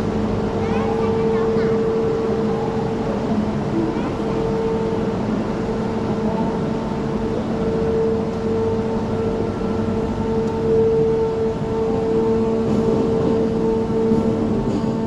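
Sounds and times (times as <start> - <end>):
constant hum: 0.0 - 15.0
funicular train rumble: 0.0 - 15.0.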